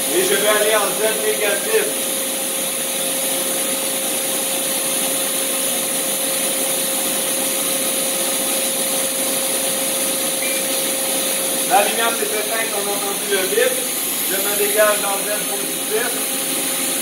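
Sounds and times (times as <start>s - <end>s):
lathe whirring hum with whine: 0.0s - 17.0s.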